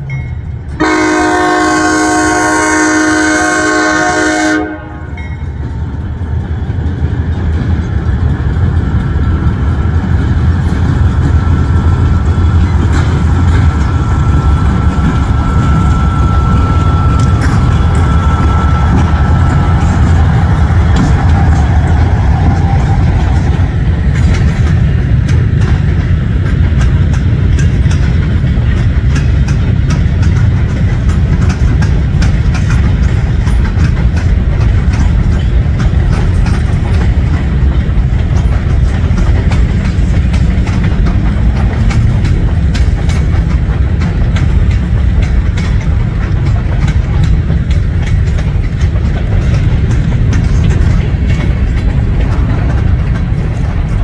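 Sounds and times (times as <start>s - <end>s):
freight train rumbling past: 0.0s - 54.0s
wheels clicking over rail joints: 5.2s - 54.0s.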